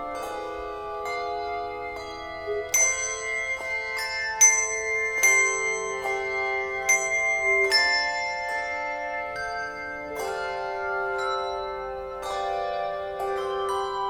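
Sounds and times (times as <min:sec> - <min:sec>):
slow ringing struck chords: 0:00.0 - 0:14.0.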